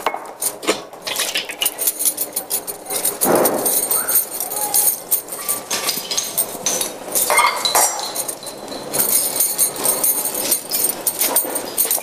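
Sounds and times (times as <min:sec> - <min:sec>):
metal tableware clinking: 0:00.0 - 0:12.0.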